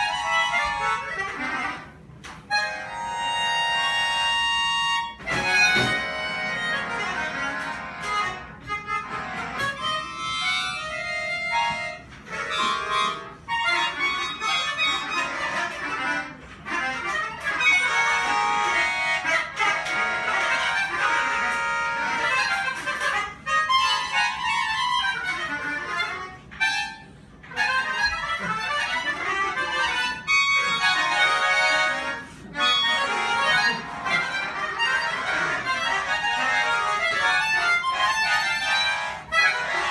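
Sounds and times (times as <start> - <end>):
accordion and harmonica melody: 0.0 - 39.9.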